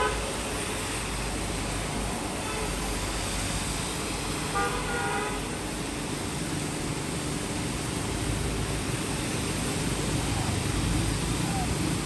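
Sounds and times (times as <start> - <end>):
rain hissing: 0.0 - 12.0
traffic rumble: 0.0 - 12.0.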